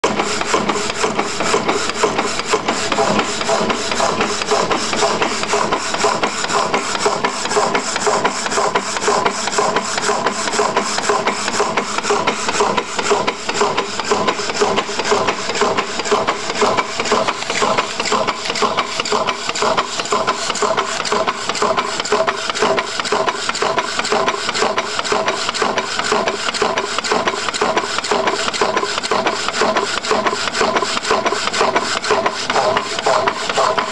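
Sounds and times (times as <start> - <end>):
power hacksaw cutting steel: 0.0 - 33.9.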